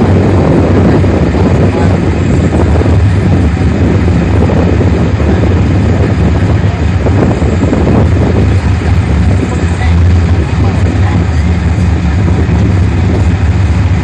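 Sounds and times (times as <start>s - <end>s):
vehicle engine rumble: 0.0s - 14.0s
wind buffeting microphone: 0.0s - 14.0s.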